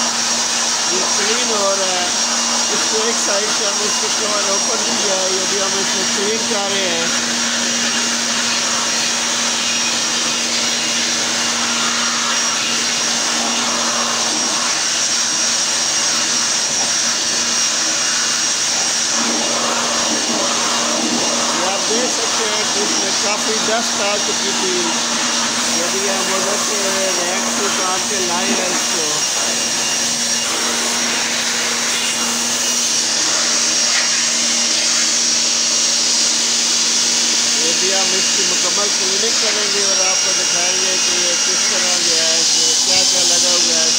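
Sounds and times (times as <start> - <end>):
electric air blower running: 0.0 - 43.9.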